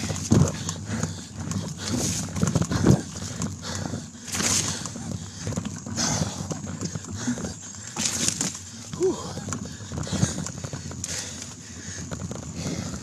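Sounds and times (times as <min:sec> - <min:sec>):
mountain bike rattling and knocking: 0:00.0 - 0:13.0.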